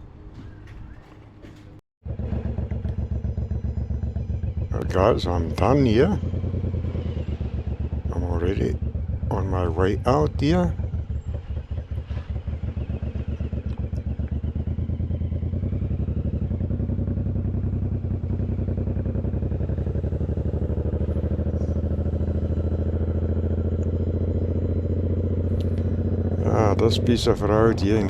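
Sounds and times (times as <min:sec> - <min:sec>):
motorcycle engine running: 0:00.4 - 0:28.0.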